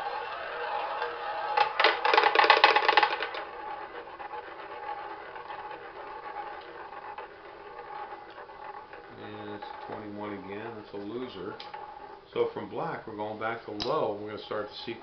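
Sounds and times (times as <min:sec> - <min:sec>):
roulette ball rattling in spinning wheel: 0:00.0 - 0:15.0.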